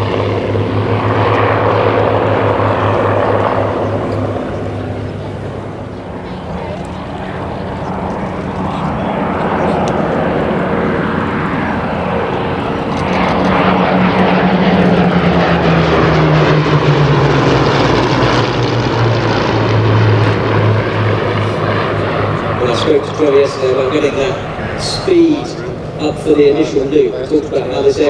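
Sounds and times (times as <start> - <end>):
propeller aircraft engines passing: 0.0 - 28.0.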